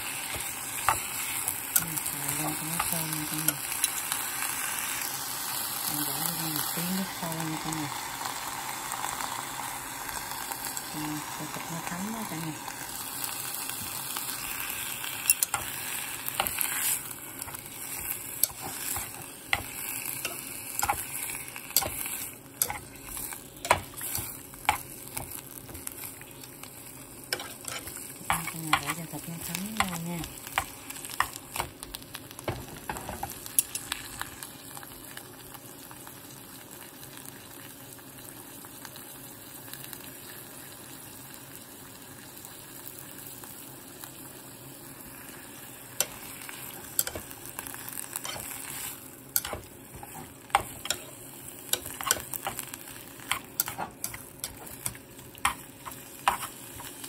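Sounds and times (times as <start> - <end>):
meat sizzling in a pot: 0.0 - 57.0.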